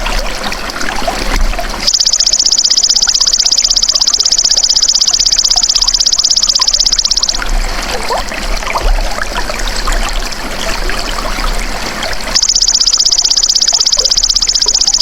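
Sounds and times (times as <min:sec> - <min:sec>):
trickling water: 0:00.0 - 0:15.0.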